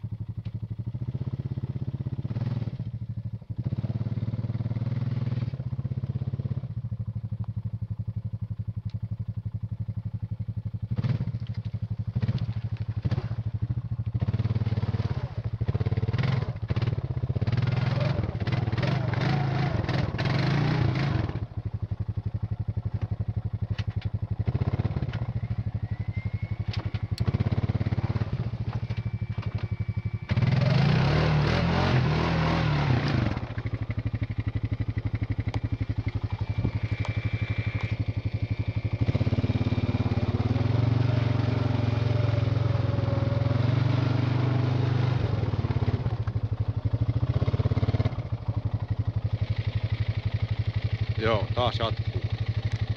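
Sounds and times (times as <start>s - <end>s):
atv engine idling and revving: 0.0s - 52.9s.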